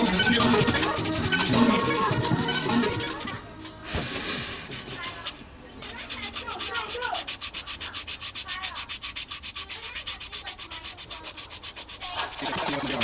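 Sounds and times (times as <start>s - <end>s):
sandpaper rubbing on wood: 0.0s - 3.4s, 4.0s - 13.0s.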